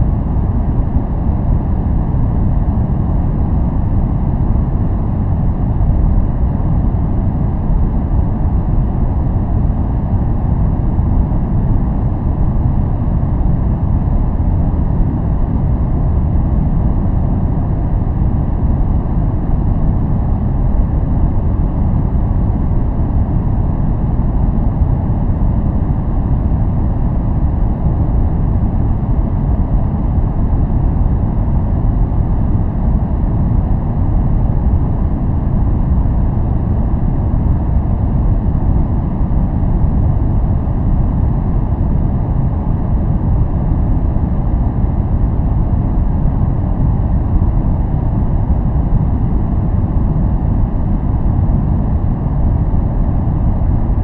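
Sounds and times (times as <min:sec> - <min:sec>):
deep steady brown noise: 0:00.0 - 0:54.0.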